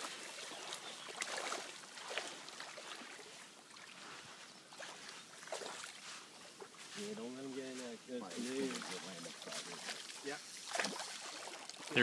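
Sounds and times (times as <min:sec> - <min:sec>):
shallow river water lapping: 0:00.0 - 0:12.0.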